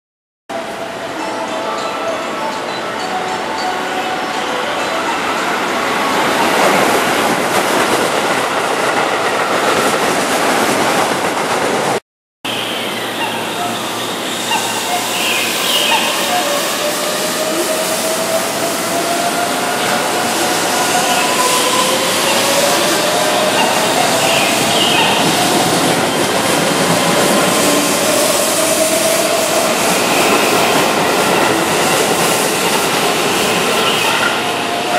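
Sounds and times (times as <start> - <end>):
electric train passing on curved track: 0.5 - 34.9
steady train sound: 0.5 - 34.9.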